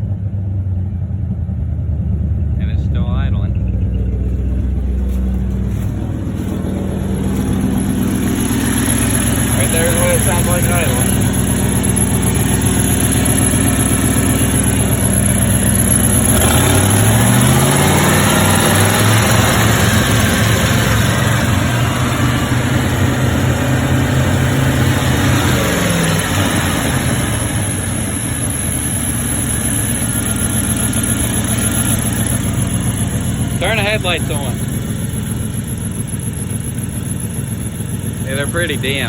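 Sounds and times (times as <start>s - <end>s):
truck engine idling and revving: 0.0s - 39.0s.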